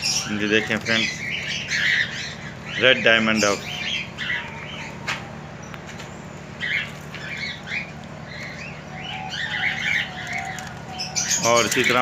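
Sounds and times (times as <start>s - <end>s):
birds chirping and squawking: 0.0s - 12.0s
steady low hum: 0.0s - 12.0s.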